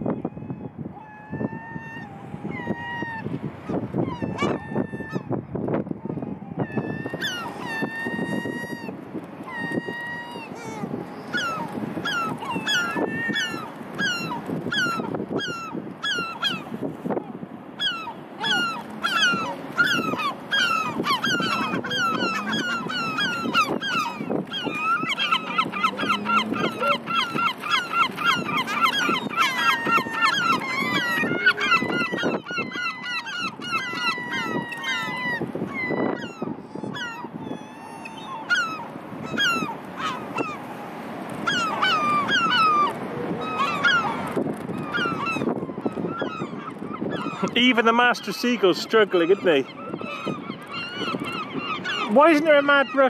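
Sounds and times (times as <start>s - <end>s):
herring gulls calling: 0.0s - 5.4s, 6.4s - 53.0s.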